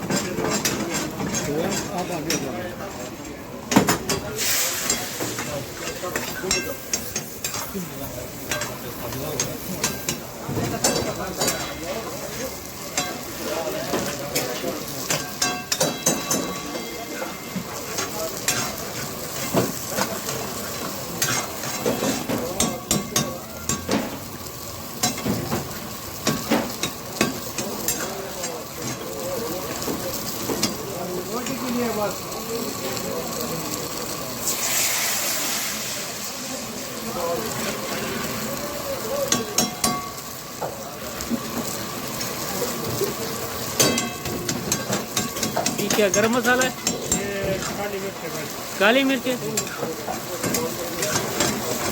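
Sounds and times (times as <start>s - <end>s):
chicken sizzling in a pan: 0.0s - 51.9s.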